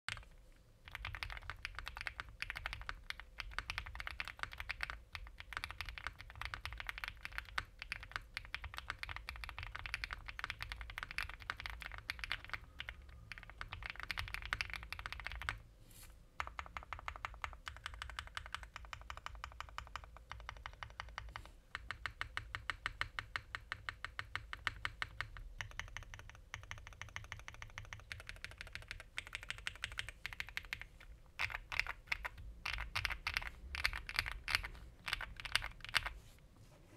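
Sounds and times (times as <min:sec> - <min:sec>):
rapid mechanical keyboard typing: 0:00.1 - 0:15.6, 0:16.4 - 0:36.2.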